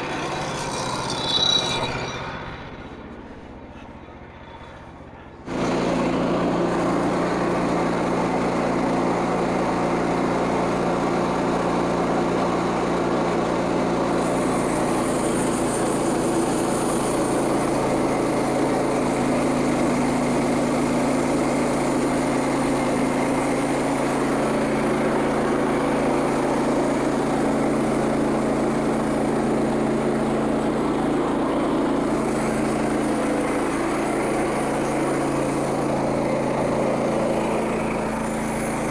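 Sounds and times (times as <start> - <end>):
small sawmill engine running: 0.0 - 38.9.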